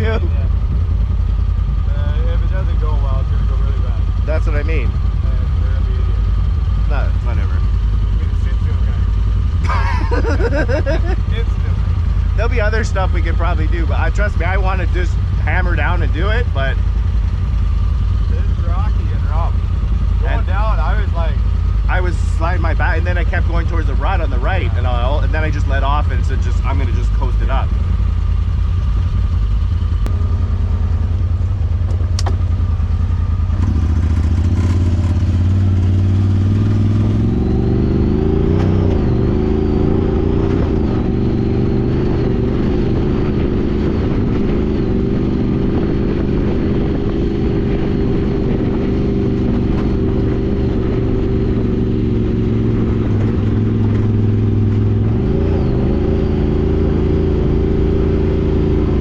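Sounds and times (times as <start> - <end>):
utility vehicle engine revving: 0.0 - 59.0.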